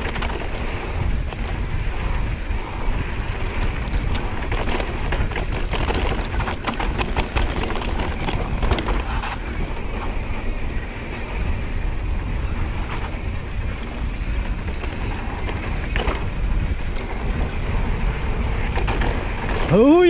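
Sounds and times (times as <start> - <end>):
bike chain clatter: 0.0 - 20.0
tyres rolling over dirt: 0.0 - 20.0
wind buffeting microphone: 0.0 - 20.0.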